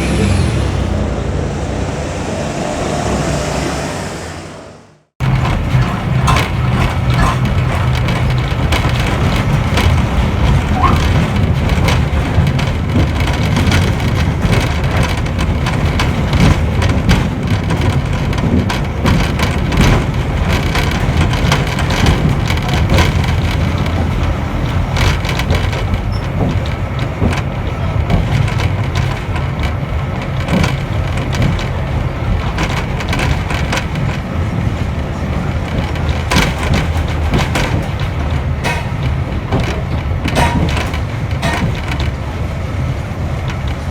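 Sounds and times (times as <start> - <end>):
train rumbling on rails: 0.0 - 43.9
rattling creaking and clicking: 5.2 - 43.9.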